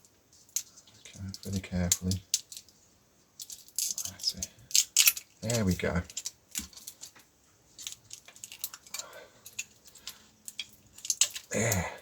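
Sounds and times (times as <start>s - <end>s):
plastic parts clicking and scraping: 0.0s - 2.8s, 3.4s - 12.0s.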